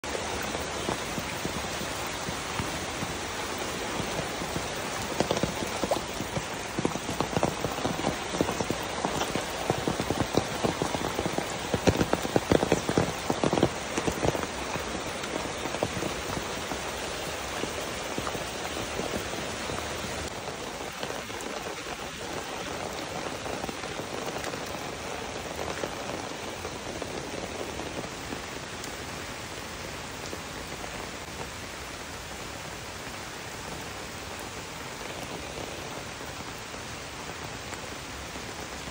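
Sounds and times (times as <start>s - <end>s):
rain falling on foliage: 0.0s - 38.9s.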